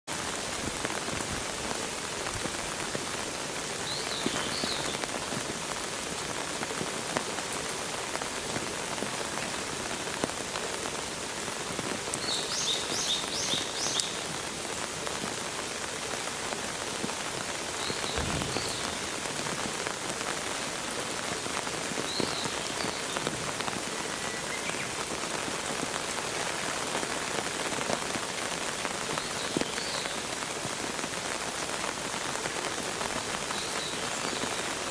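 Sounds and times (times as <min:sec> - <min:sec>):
rain on hard surfaces: 0:00.0 - 0:34.9.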